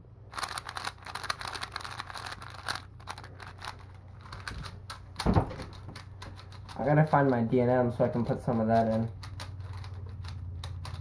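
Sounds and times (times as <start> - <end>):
puzzle cube plastic clacks: 0.3 - 7.4, 8.0 - 11.0.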